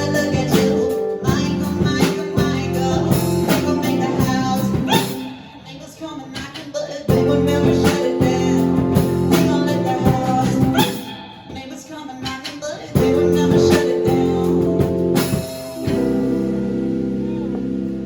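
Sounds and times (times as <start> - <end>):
live rock band playing: 0.0 - 5.4, 7.1 - 11.6, 13.0 - 18.0
person singing: 0.0 - 16.3.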